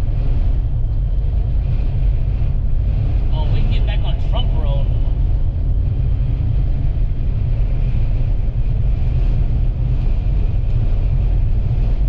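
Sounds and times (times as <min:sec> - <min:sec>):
vehicle rumble on highway: 0:00.0 - 0:12.0.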